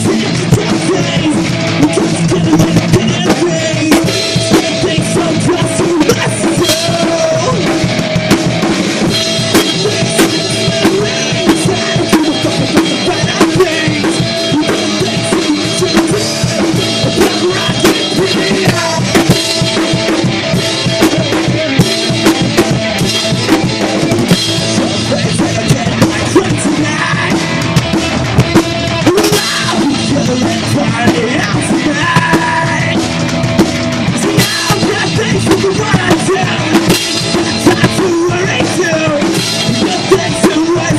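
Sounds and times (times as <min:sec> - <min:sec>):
drum kit bass drum and snare: 0:00.0 - 0:40.9
punk rock band playing: 0:00.0 - 0:40.9.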